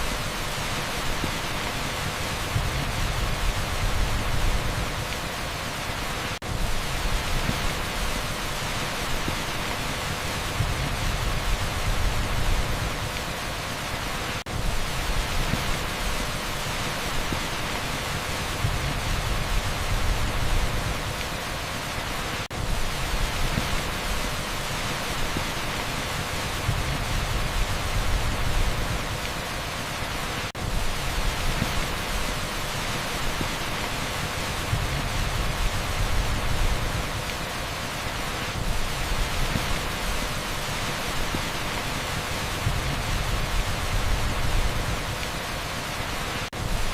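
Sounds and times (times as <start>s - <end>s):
torrential rain on a street: 0.0s - 46.9s.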